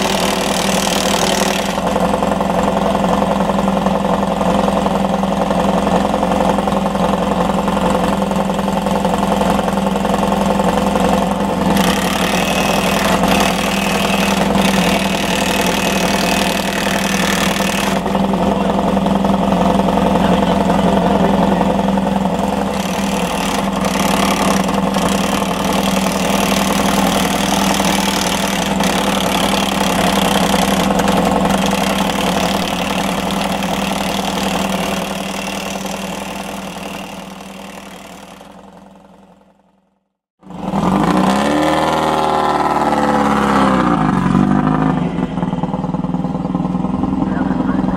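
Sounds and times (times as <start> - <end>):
engine idling: 0.0 - 40.8, 43.2 - 47.9.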